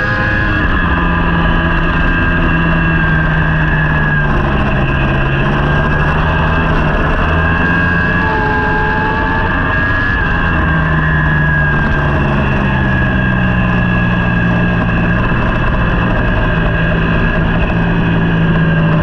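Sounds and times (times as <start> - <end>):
superbike engine running hard: 0.0 - 19.0.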